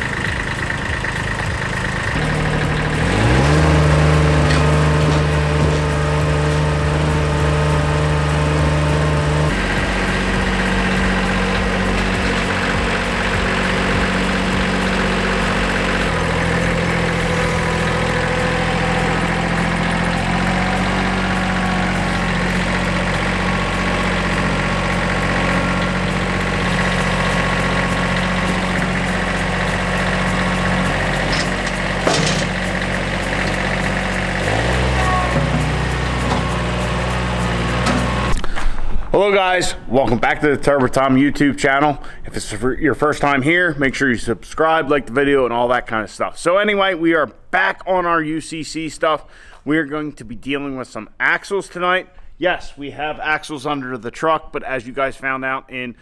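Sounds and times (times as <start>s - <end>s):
tractor engine running: 0.0s - 45.8s.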